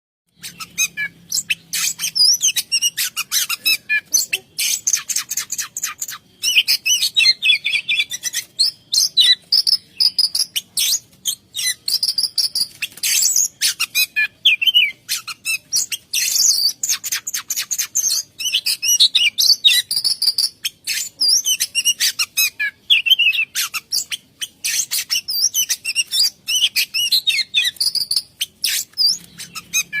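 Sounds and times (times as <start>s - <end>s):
songbird singing: 0.3s - 30.0s.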